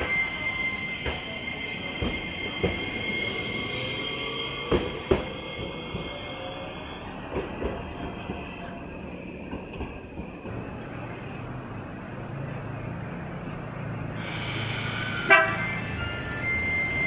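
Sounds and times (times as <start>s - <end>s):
tram wheels squealing: 0.0s - 11.3s, 12.3s - 17.0s.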